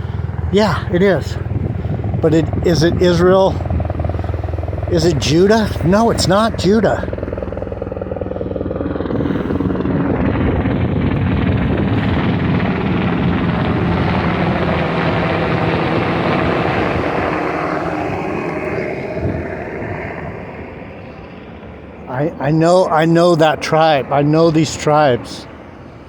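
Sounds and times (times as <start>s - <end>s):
helicopter engine drone: 0.0s - 26.0s.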